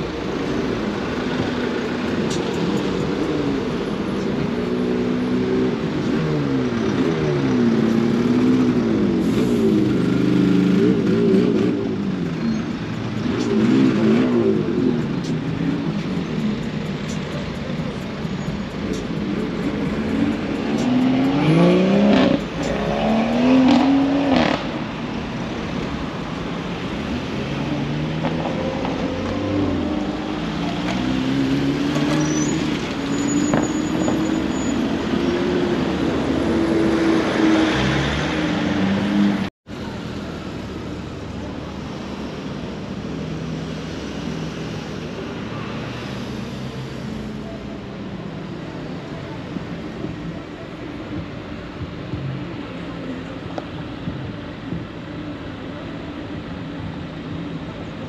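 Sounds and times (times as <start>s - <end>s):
car and bus engines passing: 0.0s - 58.0s
traffic rumble: 0.0s - 58.0s.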